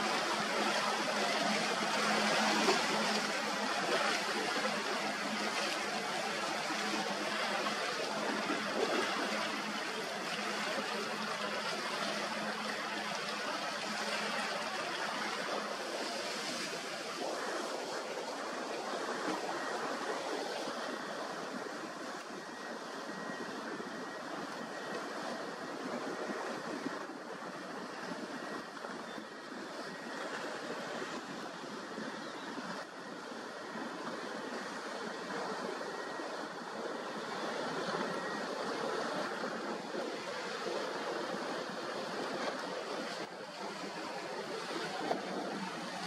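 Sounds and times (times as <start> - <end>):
faint outboard engine hum: 0.0 - 46.0
surf rushing: 0.0 - 46.0.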